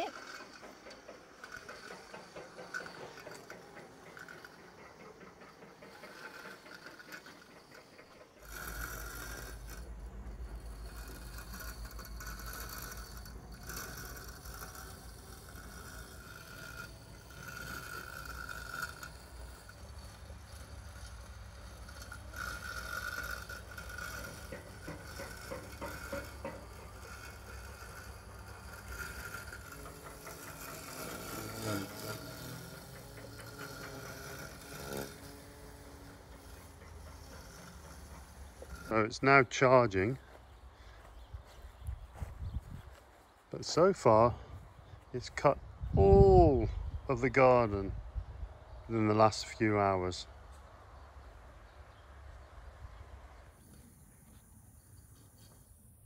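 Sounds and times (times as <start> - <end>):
robotic lawn mower motor whine: 0.0 - 51.4, 53.0 - 56.0.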